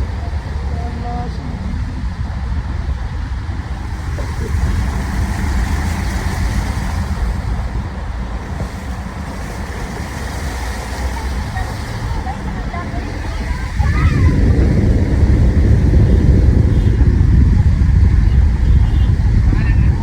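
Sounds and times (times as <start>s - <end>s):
engine rumble: 0.0s - 20.0s
road and wind noise: 0.0s - 20.0s.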